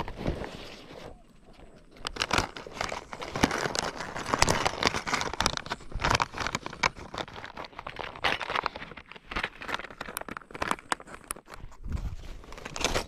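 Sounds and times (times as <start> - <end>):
plastic packet crinkling: 1.8 - 13.0.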